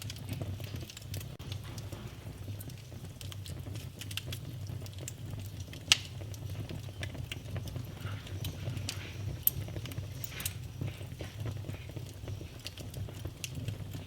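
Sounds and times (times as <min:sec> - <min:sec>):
fire crackles: 0:00.0 - 0:14.0
low rumble of flames: 0:00.0 - 0:14.0
sharp pops from fire: 0:00.0 - 0:14.0.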